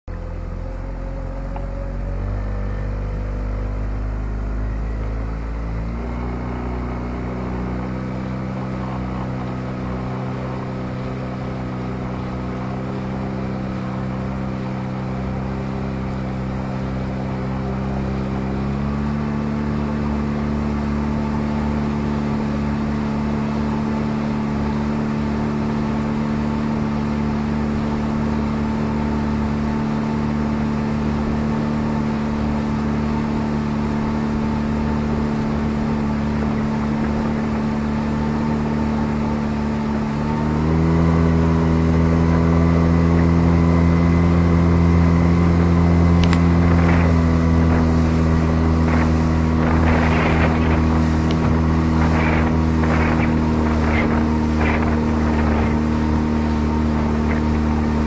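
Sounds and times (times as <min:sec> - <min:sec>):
outboard motor running: 0:00.0 - 0:58.0
water rushing along hull: 0:00.0 - 0:58.0.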